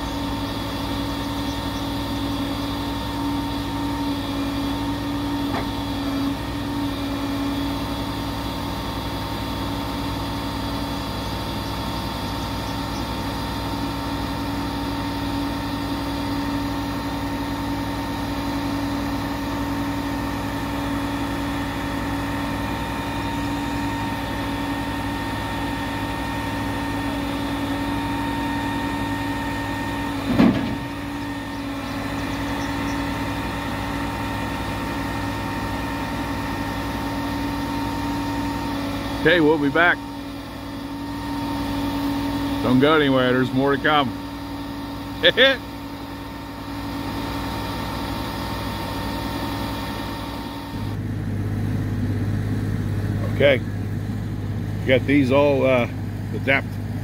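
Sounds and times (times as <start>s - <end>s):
truck engine droning hum: 0.0s - 57.0s.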